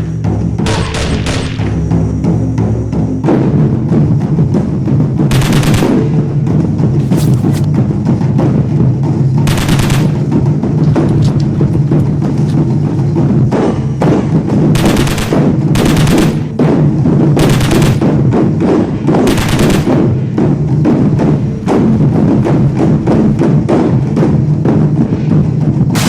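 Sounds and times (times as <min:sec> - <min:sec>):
music with heavy drums and bass: 0:00.0 - 0:26.0.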